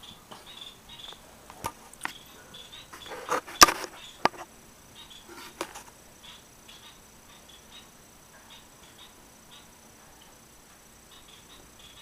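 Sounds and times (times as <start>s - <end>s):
canary chirping: 0.0s - 12.0s.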